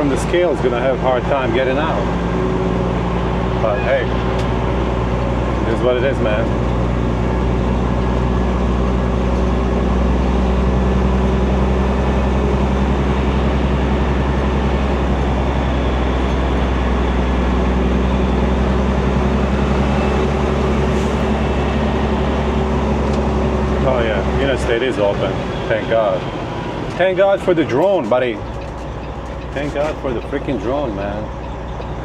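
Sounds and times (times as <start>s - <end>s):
truck diesel engine running: 0.0s - 32.0s.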